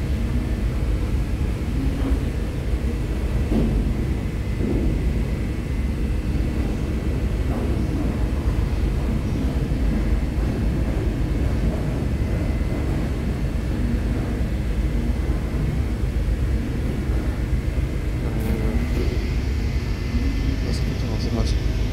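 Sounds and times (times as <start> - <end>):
faint steady whine: 0.0 - 21.9
ship engines rumbling: 0.0 - 21.9.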